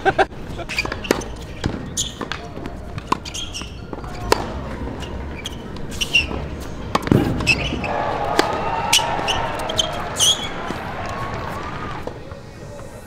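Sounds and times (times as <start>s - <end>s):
shoes squeaking: 0.0s - 13.0s
tennis balls bouncing on court: 0.6s - 12.9s
tennis balls struck by rackets: 0.7s - 12.9s.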